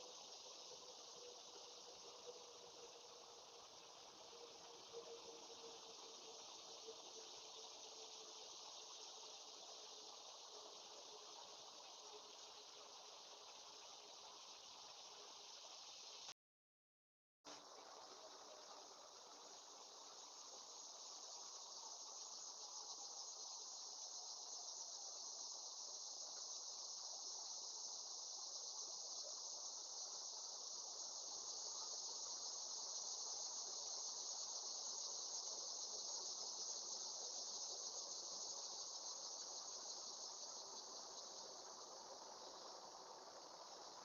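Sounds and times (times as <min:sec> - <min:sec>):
insects trilling: 0:00.0 - 0:16.3, 0:17.9 - 0:44.0.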